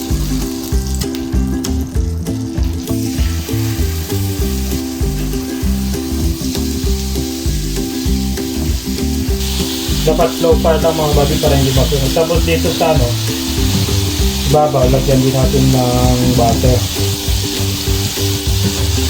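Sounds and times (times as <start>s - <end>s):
background music of low held notes: 0.0s - 19.0s
steak sizzling in a frying pan: 0.0s - 19.0s.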